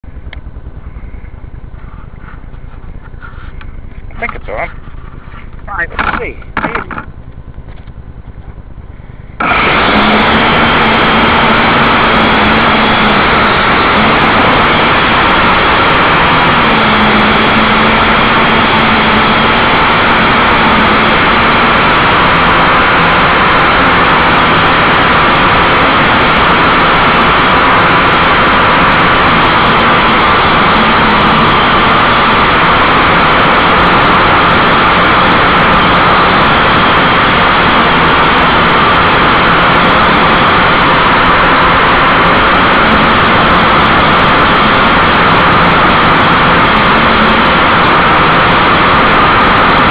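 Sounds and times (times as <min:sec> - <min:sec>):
quadcopter motors and propellers: 0:08.8 - 0:49.9.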